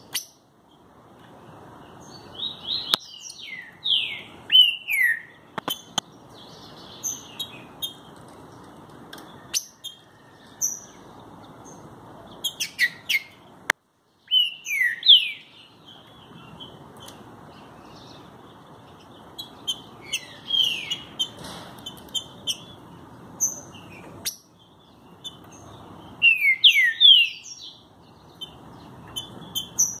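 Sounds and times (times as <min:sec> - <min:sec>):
low steady hiss: 0:00.0 - 0:30.0.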